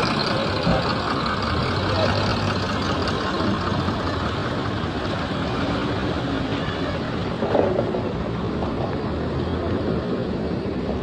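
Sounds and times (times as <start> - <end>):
road vehicle engines humming: 0.0 - 11.0.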